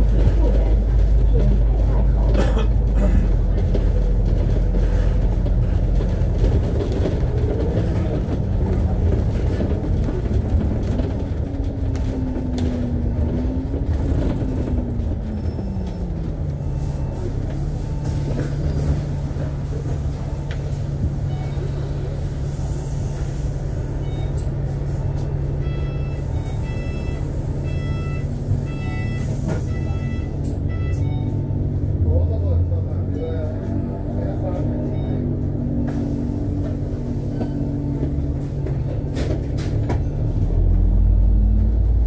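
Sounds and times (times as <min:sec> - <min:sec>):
bus engine running: 0:00.0 - 0:42.0.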